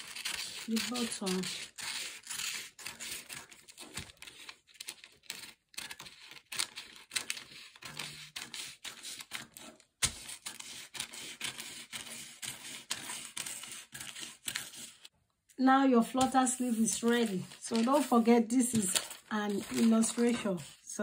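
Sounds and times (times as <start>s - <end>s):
scissors snipping paper: 0.0s - 15.1s, 16.1s - 20.9s.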